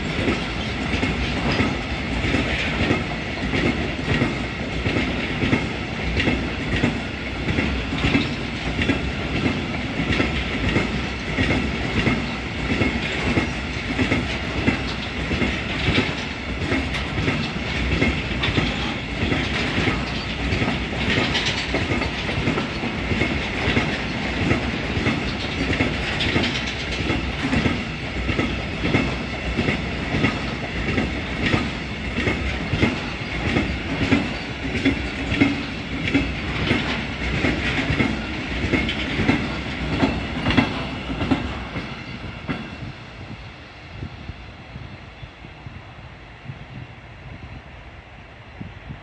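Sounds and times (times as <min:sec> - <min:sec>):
train wheels clicking over rail joints: 0:00.0 - 0:43.4
train rolling hiss: 0:00.0 - 0:49.0.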